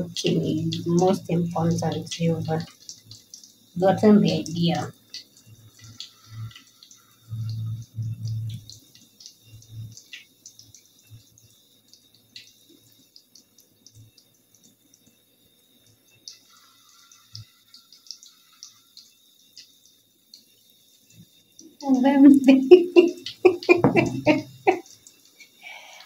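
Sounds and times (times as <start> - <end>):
dough sizzling in hot oil: 0.0 - 26.0.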